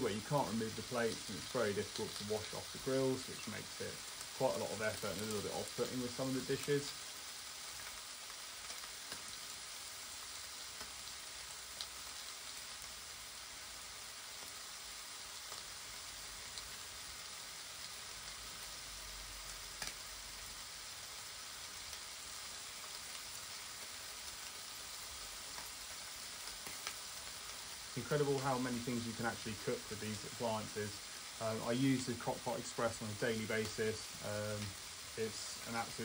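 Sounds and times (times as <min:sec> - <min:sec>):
faint crackles: 0:00.0 - 0:36.0
meat sizzling on contact grill: 0:00.0 - 0:36.0.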